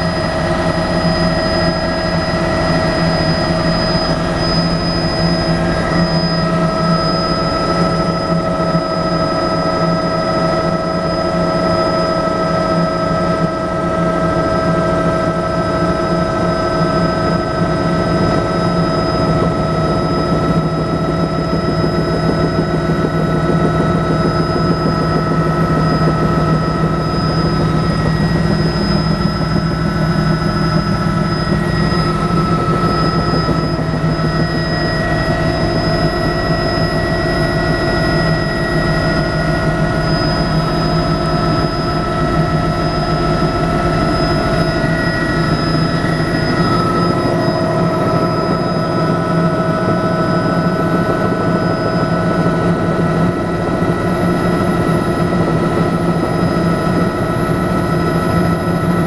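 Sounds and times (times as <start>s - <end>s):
helicopter turbine whine: 0.0s - 59.0s
low rotor rumble: 0.0s - 59.0s.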